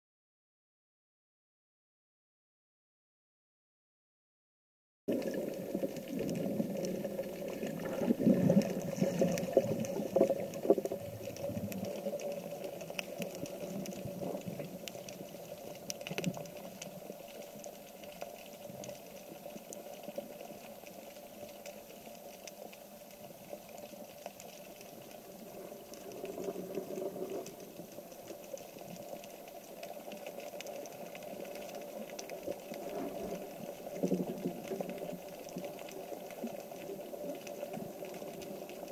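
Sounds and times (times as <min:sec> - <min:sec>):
underwater bubbling and crackling: 0:05.1 - 0:38.9.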